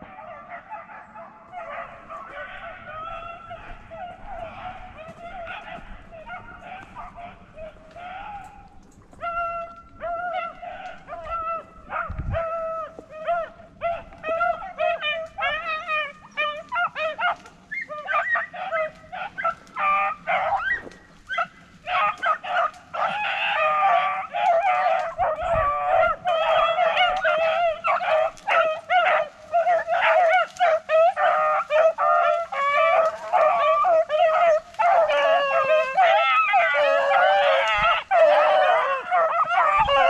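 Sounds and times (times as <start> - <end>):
beagles baying: 0.0 - 40.0.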